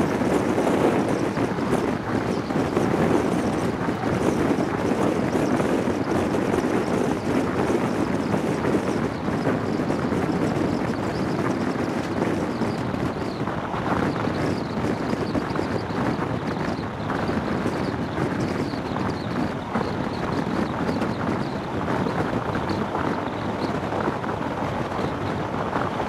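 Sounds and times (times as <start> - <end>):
train rolling on rails: 0.0 - 26.0
wind buffeting a microphone: 0.0 - 26.0.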